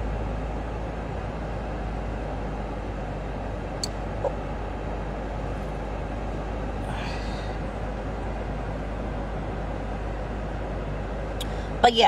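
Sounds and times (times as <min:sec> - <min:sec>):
steady low rumble with hiss: 0:00.0 - 0:12.0.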